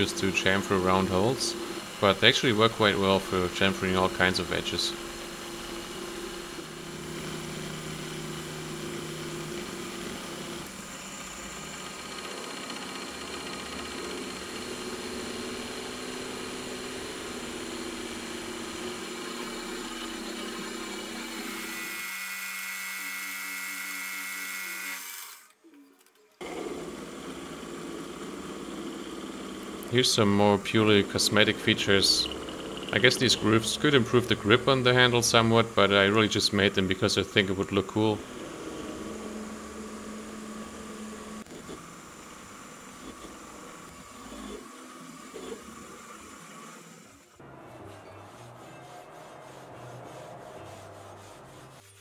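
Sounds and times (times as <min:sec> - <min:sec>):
milling machine running: 0:00.0 - 0:23.3, 0:26.4 - 0:36.6, 0:37.2 - 0:51.9.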